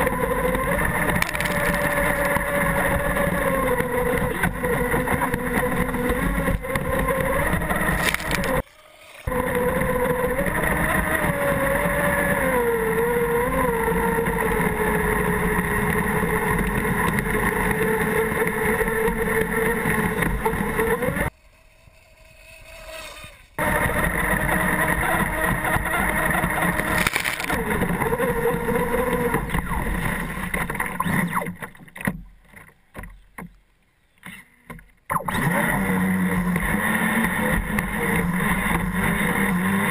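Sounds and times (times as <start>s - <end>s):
electric motor whine: 0.0s - 31.6s, 35.2s - 39.9s.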